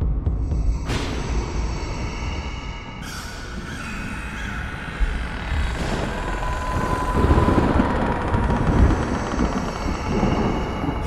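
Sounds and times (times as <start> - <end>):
low rumbling drone: 0.0 - 11.0.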